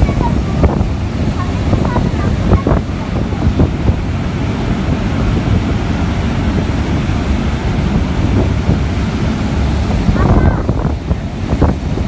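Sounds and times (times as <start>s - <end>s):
boat wake churning: 0.0s - 12.0s
wind buffeting microphone: 0.0s - 12.0s.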